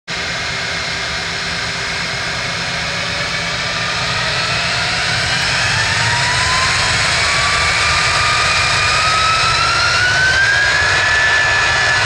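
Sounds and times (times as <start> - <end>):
jet engines spooling up: 0.1 - 12.0.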